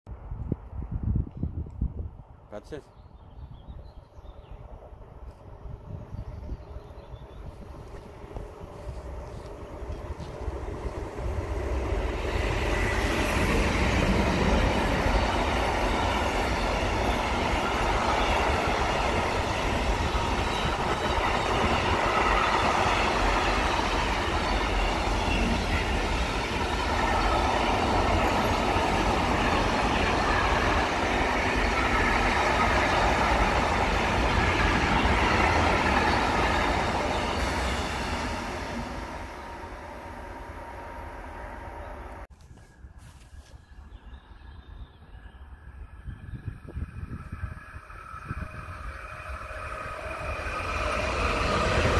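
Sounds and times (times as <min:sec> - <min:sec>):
train wheels on rails: 0:06.9 - 0:43.7, 0:45.9 - 0:51.9.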